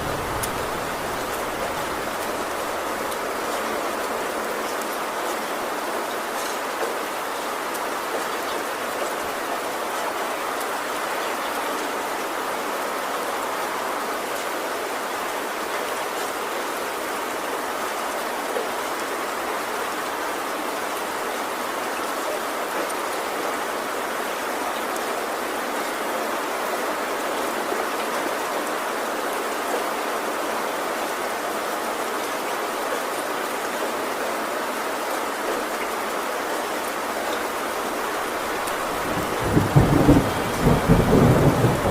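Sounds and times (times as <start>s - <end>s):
heavy rain on a tin roof: 0.0s - 41.9s.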